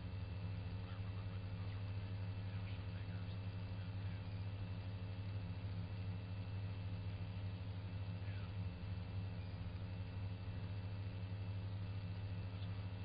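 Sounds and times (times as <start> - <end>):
helicopter engine and rotor droning: 0.0 - 13.0.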